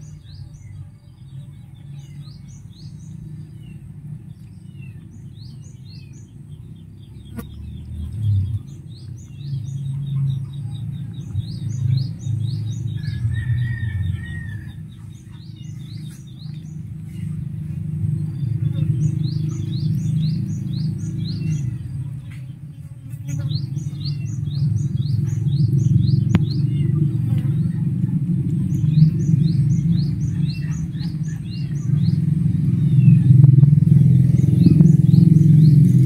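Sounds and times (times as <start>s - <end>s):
loud steady low rumble: 0.0s - 36.0s
small bird chirping: 0.0s - 36.0s.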